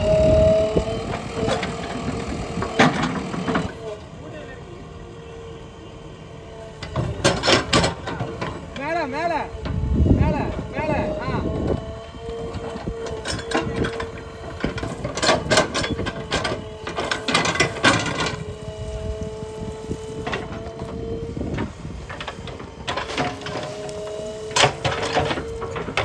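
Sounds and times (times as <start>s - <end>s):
excavator hydraulic whine: 0.0s - 26.0s.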